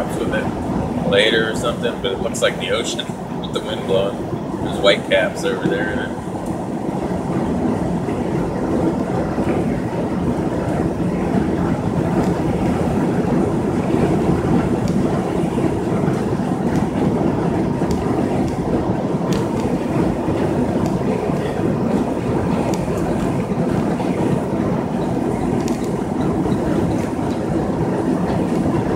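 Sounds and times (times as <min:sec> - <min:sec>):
road and engine rumble: 0:00.0 - 0:28.9.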